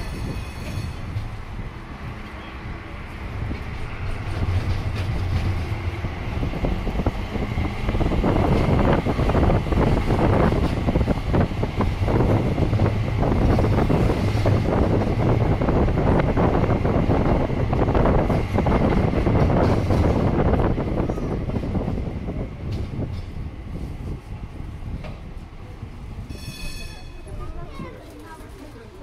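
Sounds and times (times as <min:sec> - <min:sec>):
tram motor hum: 0:00.0 - 0:27.1
wheels rumbling on rails: 0:00.0 - 0:29.0.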